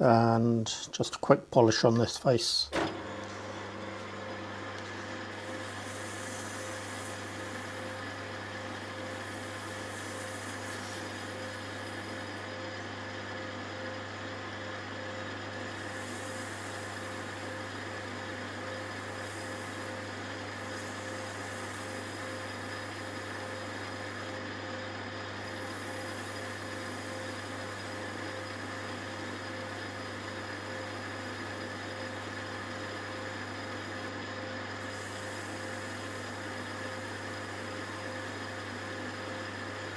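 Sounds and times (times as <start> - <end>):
metalworking lathe running: 2.7 - 39.9.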